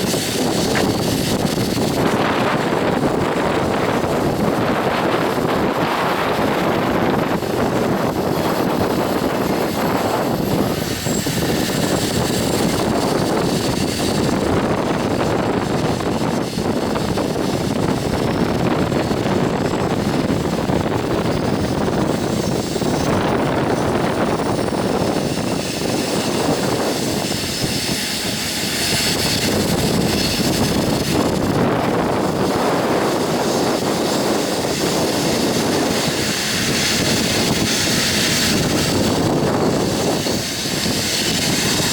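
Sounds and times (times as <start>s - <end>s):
train rolling on rails: 0.0s - 41.9s.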